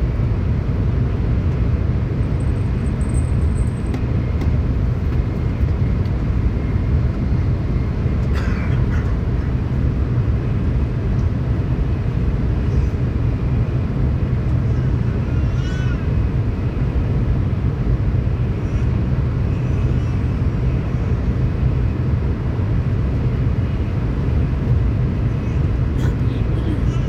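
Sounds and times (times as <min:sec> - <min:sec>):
train rumbling at speed: 0:00.0 - 0:27.0.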